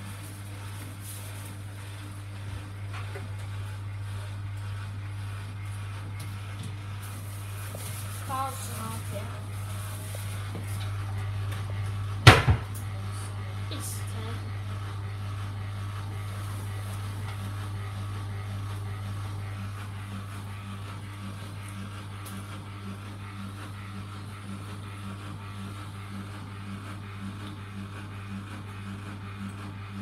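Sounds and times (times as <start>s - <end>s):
drain pump humming: 0.0s - 30.0s.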